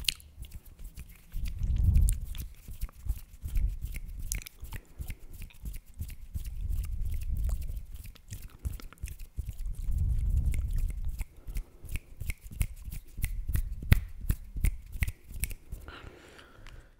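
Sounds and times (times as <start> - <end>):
close chewing with wet mouth clicks: 0.0 - 15.8.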